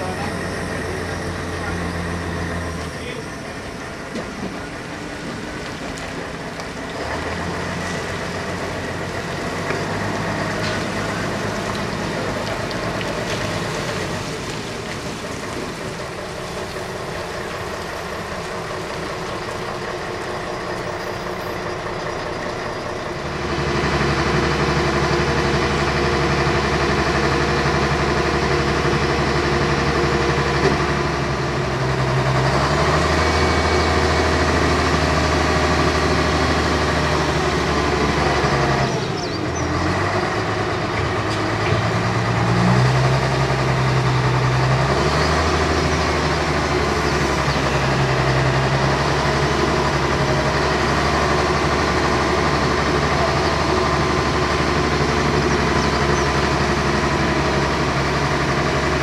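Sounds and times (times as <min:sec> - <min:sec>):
deep diesel engine idling: 0:00.0 - 0:59.0
diesel engine running: 0:00.0 - 0:59.0.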